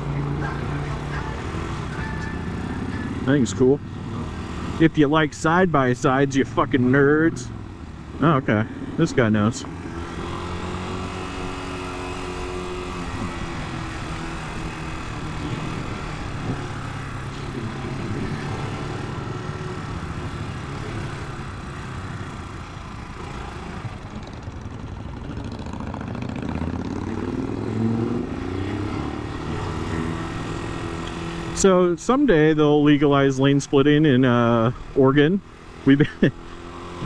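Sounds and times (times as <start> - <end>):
motorcycle engine running: 0.0 - 37.0
road noise: 0.0 - 37.0.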